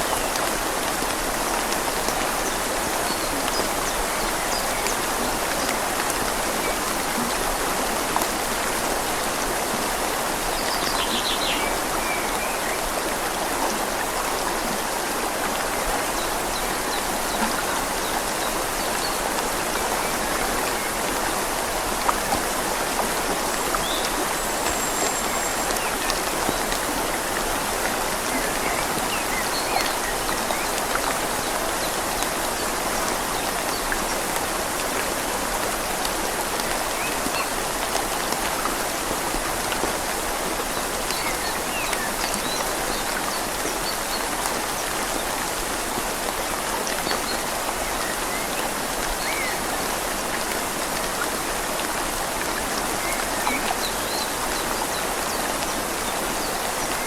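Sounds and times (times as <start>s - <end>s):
rain falling on leaves: 0.0s - 57.0s
river flowing: 0.0s - 57.0s.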